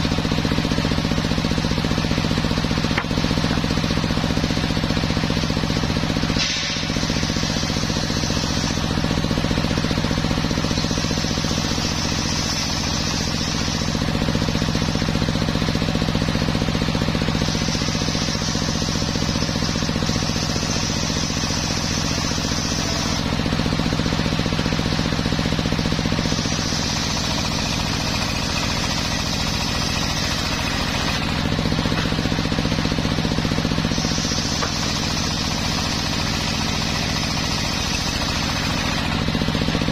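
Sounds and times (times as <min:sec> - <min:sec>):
circular saw humming: 0:00.0 - 0:39.9
saw cutting wood: 0:00.0 - 0:39.9.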